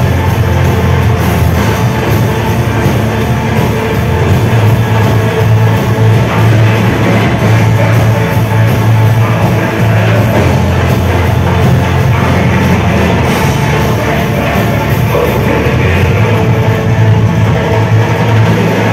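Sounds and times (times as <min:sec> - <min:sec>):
heavy sustained bass: 0:00.0 - 0:18.9
rock band playing loud: 0:00.0 - 0:18.9.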